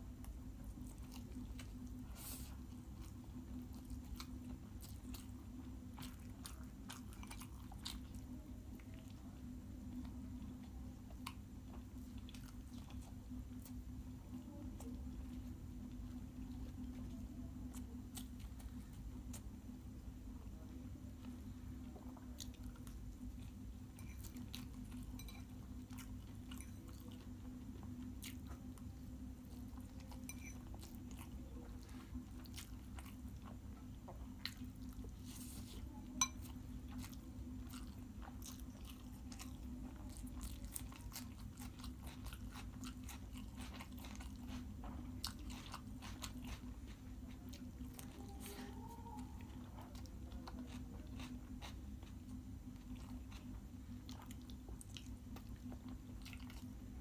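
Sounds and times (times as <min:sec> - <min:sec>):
steady low hum: 0:00.0 - 0:57.0
person chewing food: 0:00.1 - 0:19.8, 0:21.2 - 0:57.0.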